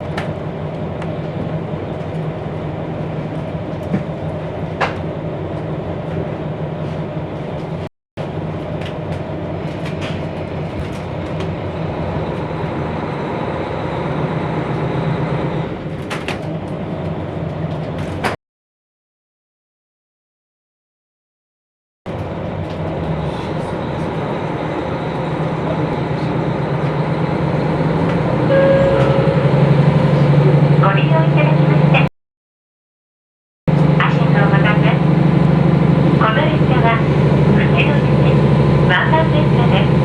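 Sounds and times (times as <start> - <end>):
diesel engine humming: 0.0 - 18.3, 22.1 - 32.1, 33.7 - 40.0.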